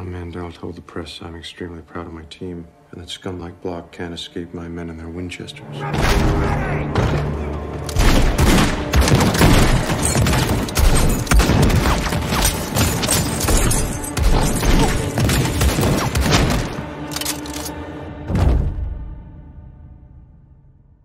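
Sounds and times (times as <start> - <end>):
film score music: 0.0 - 21.0.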